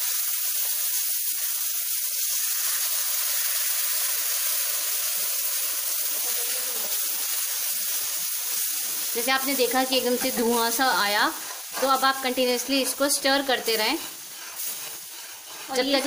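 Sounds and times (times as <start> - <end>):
syrup sizzling in hot fat: 0.0 - 16.0.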